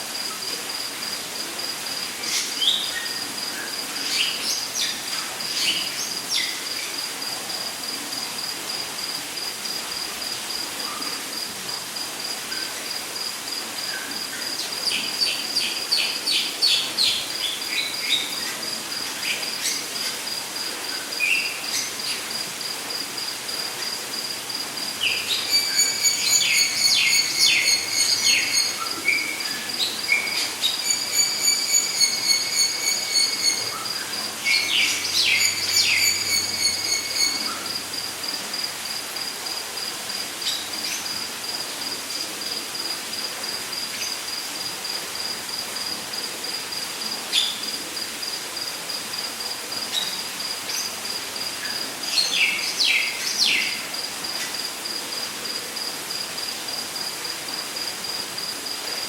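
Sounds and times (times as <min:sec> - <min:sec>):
cricket trilling: 0:00.0 - 0:59.0.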